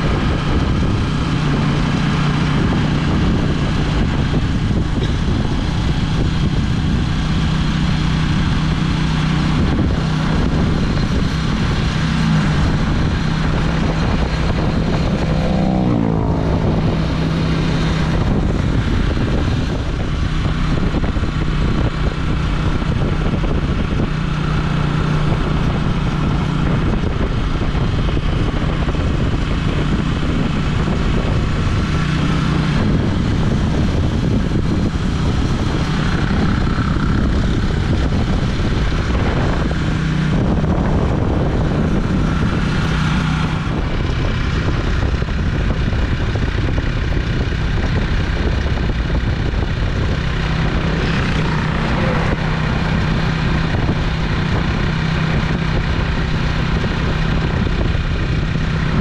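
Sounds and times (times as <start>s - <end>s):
road noise: 0.0s - 59.0s
rushing wind: 0.0s - 59.0s
vehicle engine hum: 0.0s - 59.0s.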